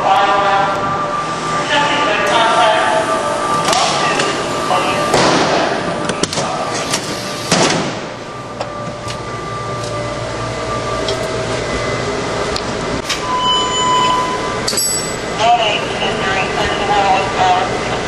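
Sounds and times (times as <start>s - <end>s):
steady high tone: 0.0s - 6.8s, 8.0s - 18.0s
low hum: 0.0s - 18.0s.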